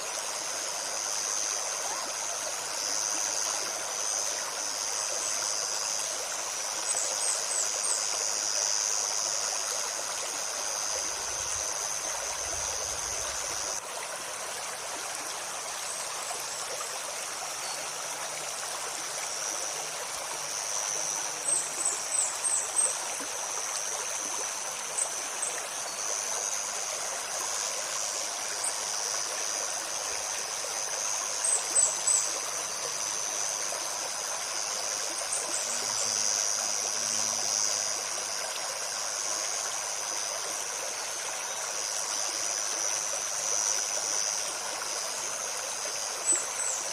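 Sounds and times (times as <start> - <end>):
high insect drone: 0.0 - 46.9
stream flowing over stones: 0.0 - 46.9.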